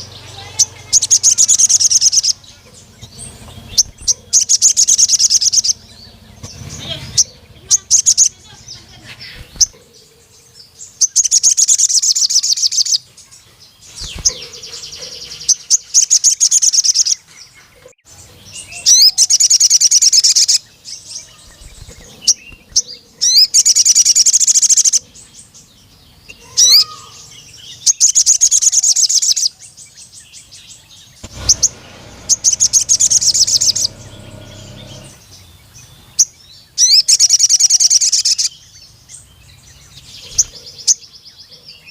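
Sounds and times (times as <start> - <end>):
high bird chirps: 0.0 - 41.1
sunbird singing trills: 0.0 - 41.9.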